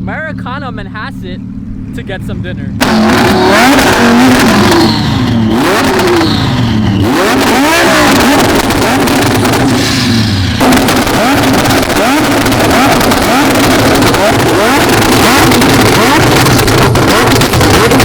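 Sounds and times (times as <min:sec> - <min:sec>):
road and wind noise: 0:00.0 - 0:18.0
car engine revving: 0:00.1 - 0:18.0.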